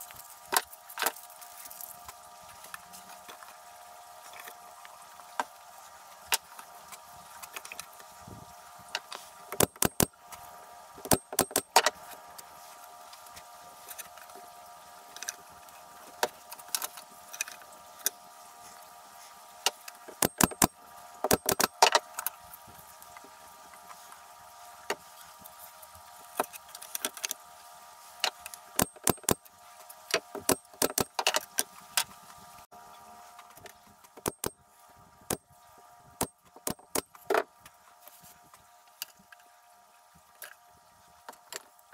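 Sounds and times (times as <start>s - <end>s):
steady hum: 0.0s - 41.7s.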